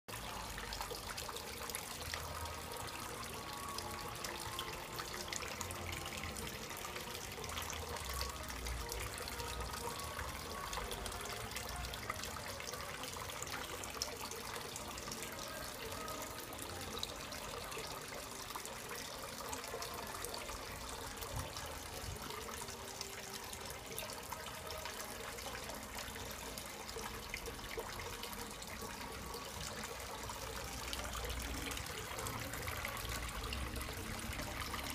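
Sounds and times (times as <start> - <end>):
water trickling into pond: 0.1 - 34.9.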